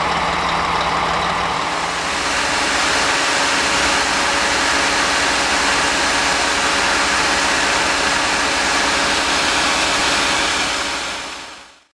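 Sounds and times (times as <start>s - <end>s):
fire engine rumbling: 0.0s - 11.9s.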